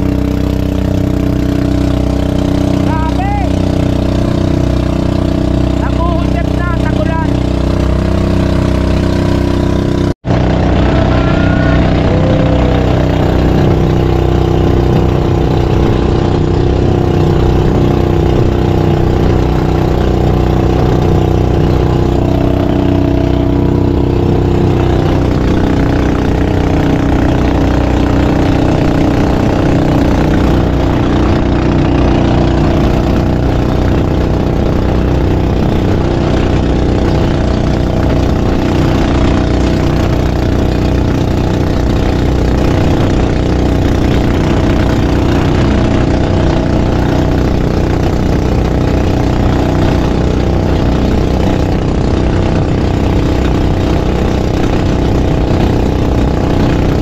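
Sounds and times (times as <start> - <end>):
boat engine running: 0.0 - 57.0
water rushing along hull: 0.0 - 57.0.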